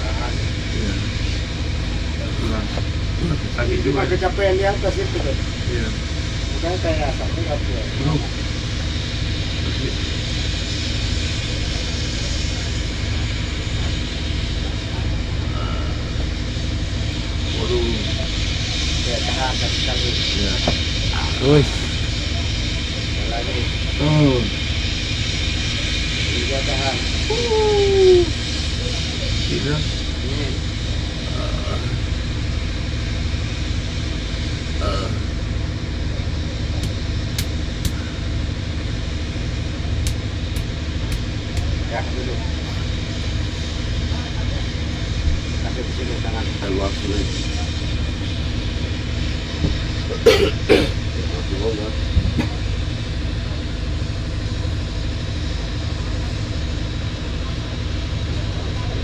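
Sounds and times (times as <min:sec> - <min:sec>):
machine drone with low hum: 0:00.0 - 0:59.0.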